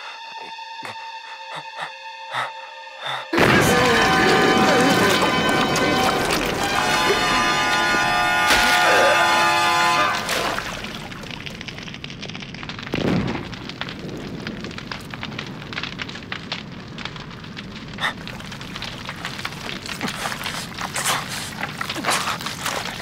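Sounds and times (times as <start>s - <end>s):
fire crackling: 0.0s - 23.0s.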